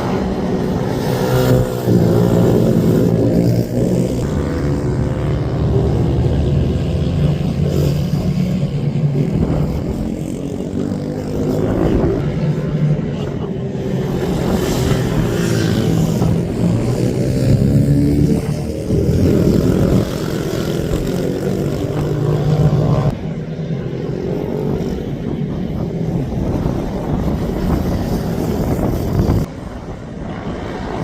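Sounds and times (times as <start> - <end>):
minibike engines revving: 0.0 - 29.5.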